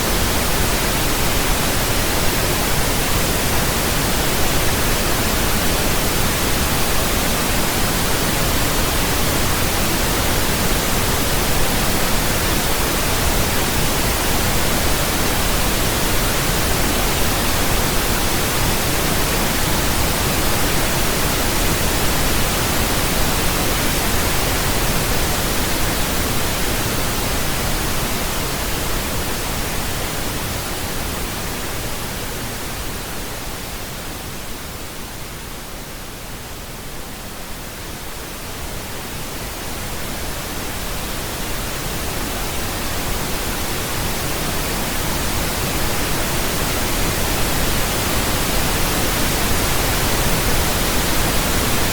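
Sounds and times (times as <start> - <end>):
pink noise hiss: 0.0 - 51.9.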